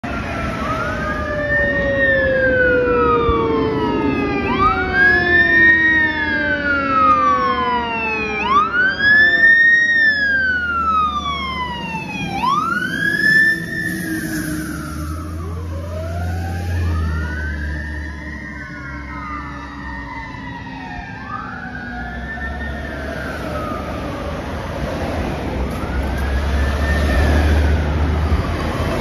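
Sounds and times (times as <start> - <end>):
electronic siren wailing: 0.0 - 24.8, 25.6 - 29.0
mechanical siren winding down: 0.1 - 24.5, 25.6 - 29.0.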